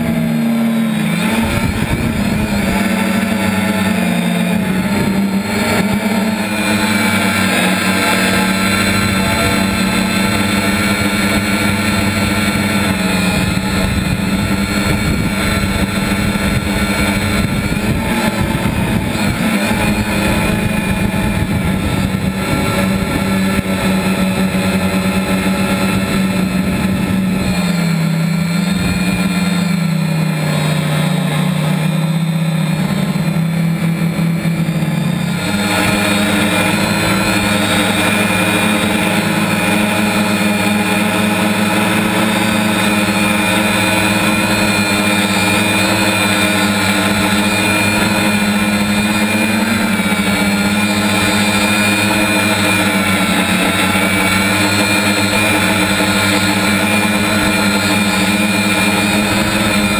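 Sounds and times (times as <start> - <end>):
drone motors whirring: 0.0 - 59.9.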